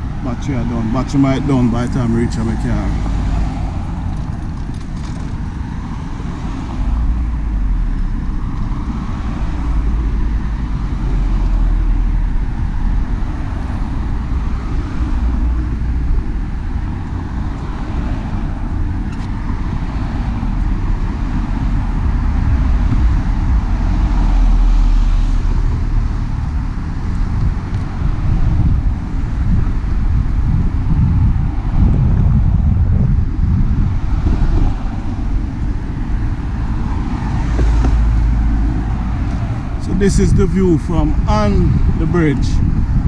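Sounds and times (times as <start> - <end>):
road traffic rumble: 0.0 - 43.0
wind buffeting microphone: 0.0 - 43.0.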